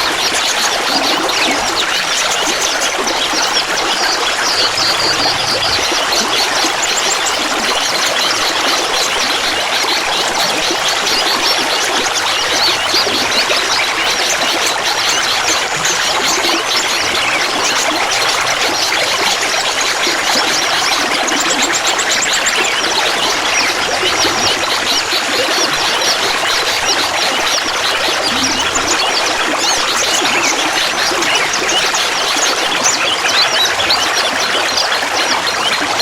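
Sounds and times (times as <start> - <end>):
water trickling and babbling: 0.0 - 36.0.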